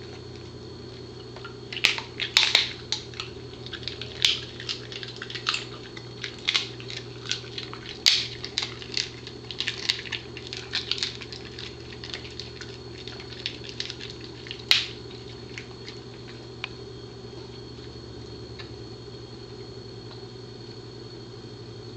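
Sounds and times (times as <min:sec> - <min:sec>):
dog chewing crunchy treat: 0:00.0 - 0:18.7
faint steady hum: 0:00.0 - 0:21.9.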